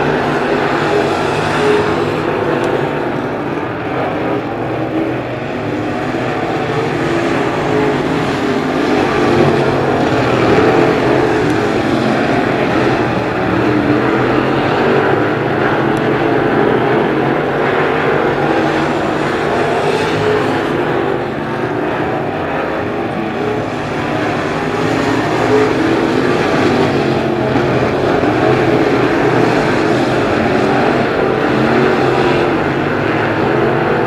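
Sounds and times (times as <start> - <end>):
race car engines droning: 0.0 - 34.0.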